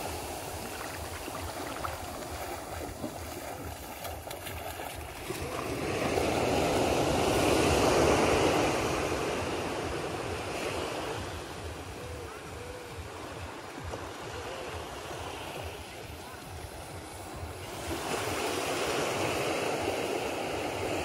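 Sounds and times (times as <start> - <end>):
gentle surf on sandy beach: 0.0 - 21.0.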